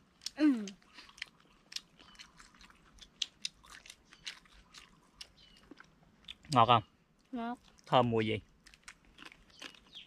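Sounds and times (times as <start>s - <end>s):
people chewing: 0.0s - 10.0s.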